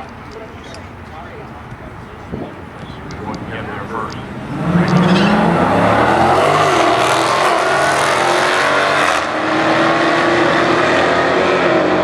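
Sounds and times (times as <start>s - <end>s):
car engine at full throttle: 1.7s - 12.0s.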